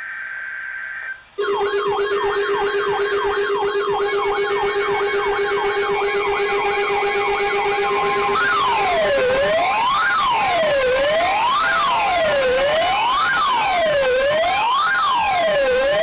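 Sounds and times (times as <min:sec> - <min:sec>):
electronic siren yelping: 0:00.3 - 0:16.0.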